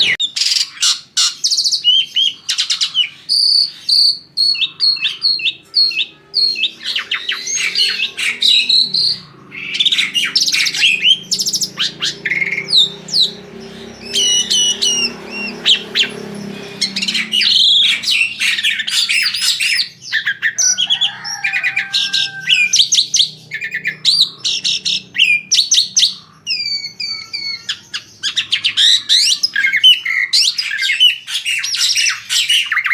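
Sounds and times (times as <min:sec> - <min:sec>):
starling singing: 0:00.0 - 0:32.9.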